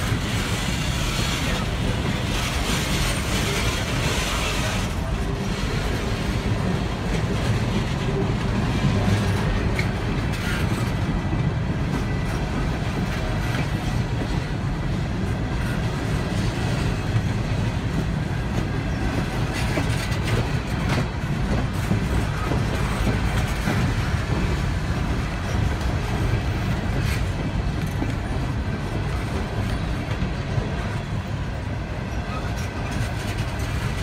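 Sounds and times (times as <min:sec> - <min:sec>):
wheels clacking over rail joints: 0:00.0 - 0:31.4
train cars rumbling past: 0:00.0 - 0:34.0.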